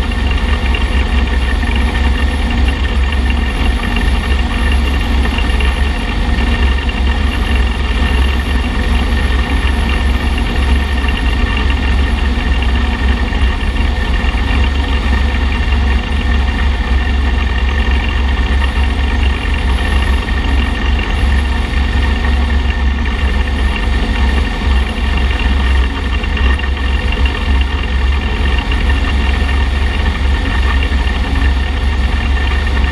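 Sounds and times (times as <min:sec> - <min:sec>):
road rumble: 0:00.0 - 0:32.9.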